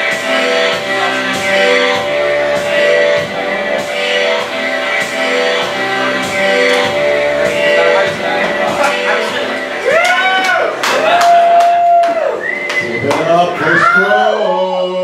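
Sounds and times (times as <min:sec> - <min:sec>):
loud music with guitar and beat: 0:00.0 - 0:12.7.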